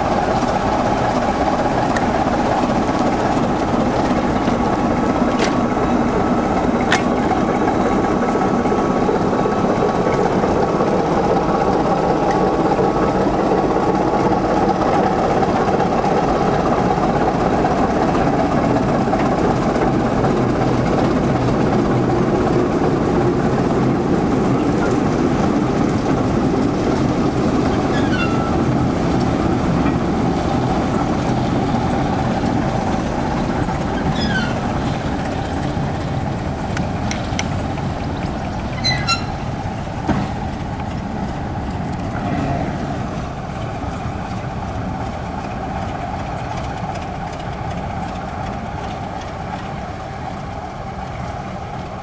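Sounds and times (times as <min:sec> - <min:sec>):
diesel locomotive engine idling: 0:00.0 - 0:52.0.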